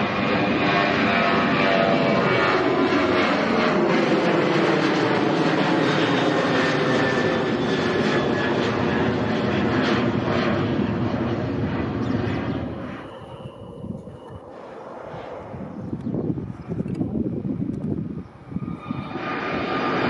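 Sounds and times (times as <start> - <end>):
jet engines at takeoff thrust: 0.0 - 20.0.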